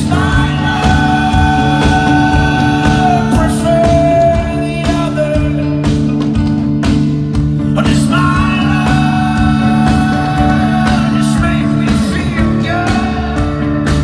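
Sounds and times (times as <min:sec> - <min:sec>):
drums hitting: 0:00.0 - 0:14.0
electric guitar notes: 0:00.0 - 0:14.0
folk-rock band playing: 0:00.0 - 0:14.0.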